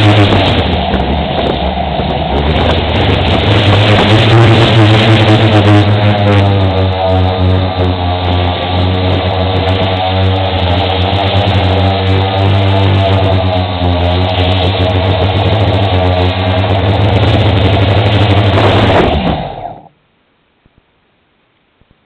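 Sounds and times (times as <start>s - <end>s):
quadcopter propellers humming: 0.0s - 19.9s.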